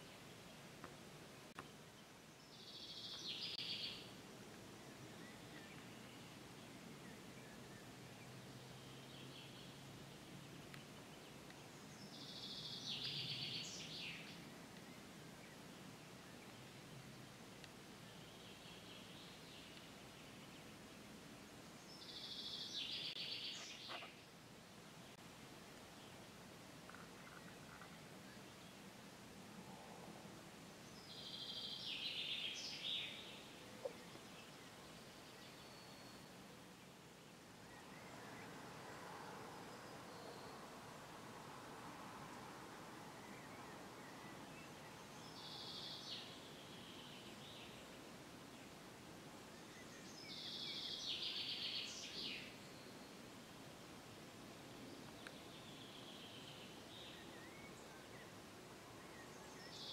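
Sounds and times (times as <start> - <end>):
faint outdoor background noise: 0.0 - 59.9
songbird chirping: 0.0 - 59.9.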